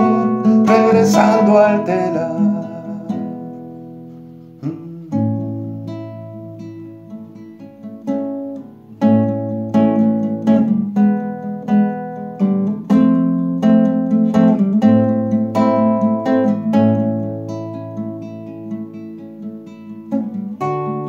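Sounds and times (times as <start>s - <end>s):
nylon-string guitar chords: 0.0s - 21.0s.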